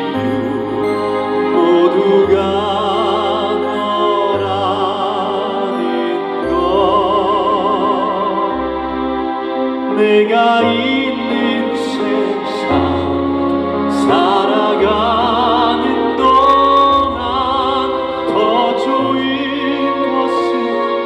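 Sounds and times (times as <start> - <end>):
live ballad music: 0.0 - 21.0.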